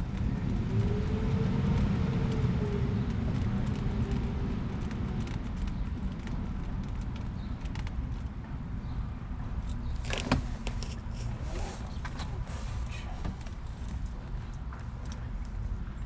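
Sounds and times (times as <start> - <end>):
motor vehicle engine rumble: 0.0 - 16.0.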